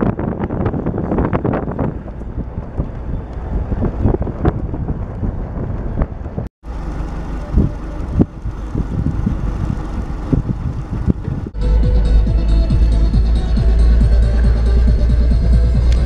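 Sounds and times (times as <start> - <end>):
vehicle rumble: 0.0 - 16.0
wind buffeting microphone: 0.0 - 16.0.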